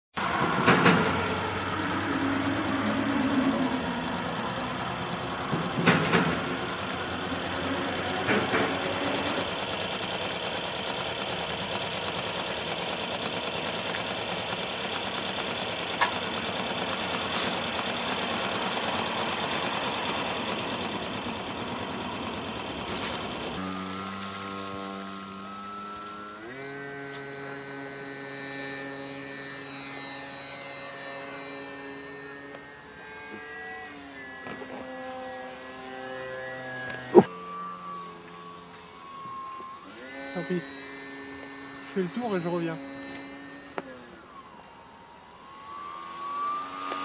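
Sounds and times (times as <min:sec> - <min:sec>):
model plane motor buzzing: 0:00.2 - 0:47.0.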